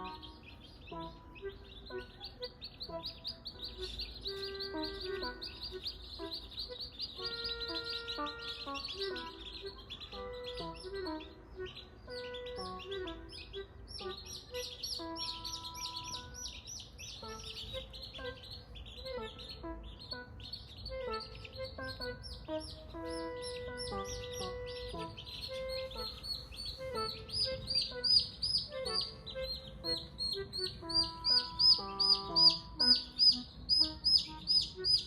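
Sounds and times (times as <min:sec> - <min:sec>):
chicks peeping: 0:00.0 - 0:35.0
light background music: 0:00.0 - 0:35.0.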